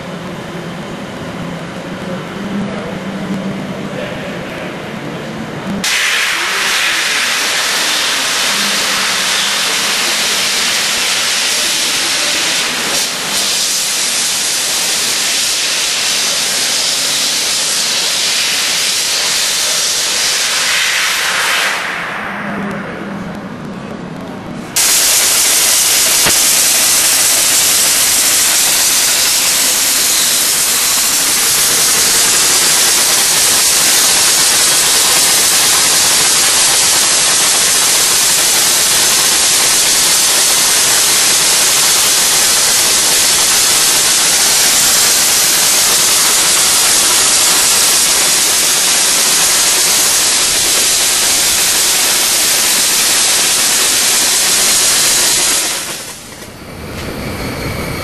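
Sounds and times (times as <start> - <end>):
dry ice blaster hissing: 5.8 - 22.4, 24.8 - 57.8.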